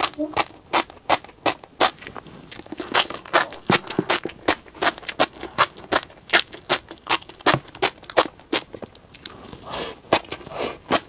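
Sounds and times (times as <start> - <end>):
fish roe popping while chewed: 0.0 - 9.3.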